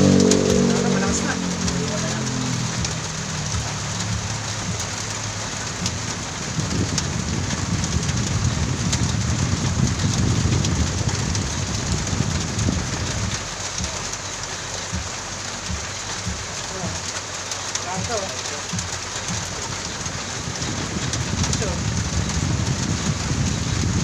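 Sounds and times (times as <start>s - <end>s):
heavy rain on pavement: 0.0s - 24.0s
low rumble: 0.0s - 24.0s.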